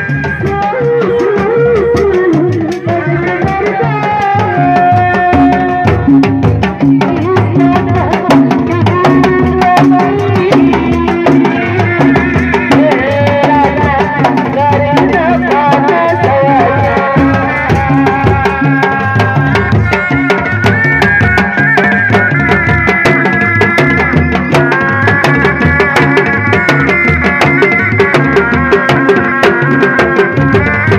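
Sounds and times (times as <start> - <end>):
hand drums beating: 0.0 - 30.9.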